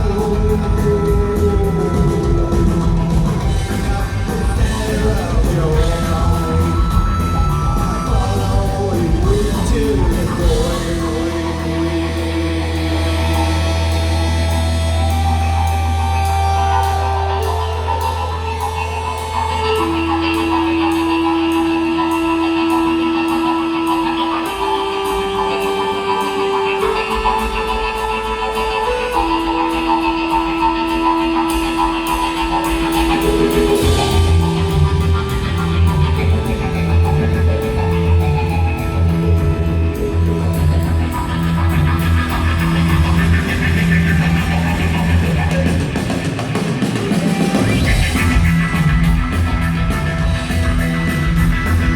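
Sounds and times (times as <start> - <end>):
bass and drums riff: 0.0 - 51.9
held guitar notes: 0.0 - 51.9
low drone: 0.0 - 51.9.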